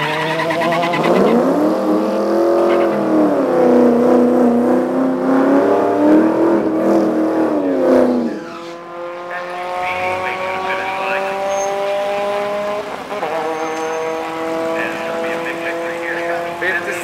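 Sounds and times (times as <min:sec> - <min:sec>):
car engine revving through upshifts: 0:00.0 - 0:17.0
other car engine note: 0:00.4 - 0:17.0.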